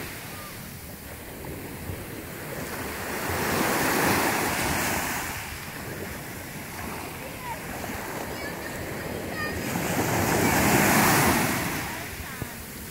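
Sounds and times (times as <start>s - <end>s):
small sea waves washing onto beach: 0.0s - 12.9s
wind rumbling on microphone: 0.0s - 12.9s.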